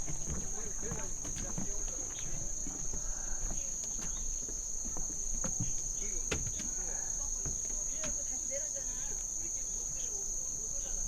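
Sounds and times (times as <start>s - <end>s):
faint distant voices: 0.0s - 11.0s
high-pitched insect chorus: 0.0s - 11.0s.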